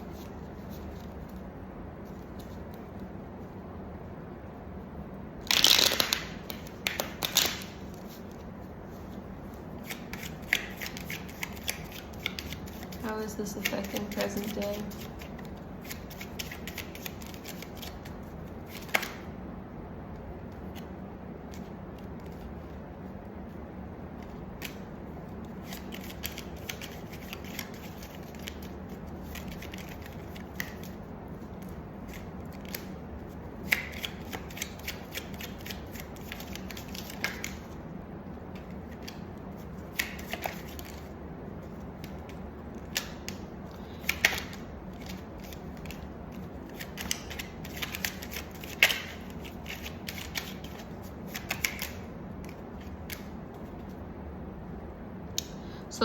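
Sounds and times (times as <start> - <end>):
cards being shuffled: 0.0 - 3.1, 5.4 - 19.3, 24.2 - 37.8, 38.5 - 54.0
steady low hum: 0.0 - 56.0.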